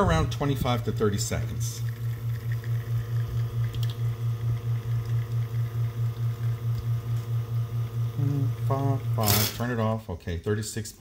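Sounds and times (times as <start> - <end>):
espresso machine pump humming: 0.0 - 9.7.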